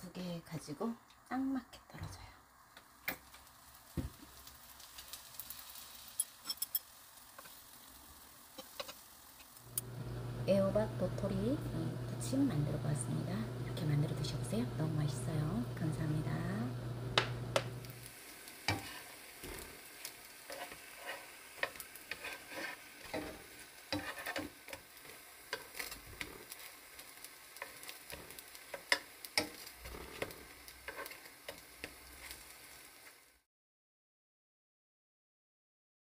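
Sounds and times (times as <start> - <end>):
food frying with crackles and pops: 0.0 - 33.5.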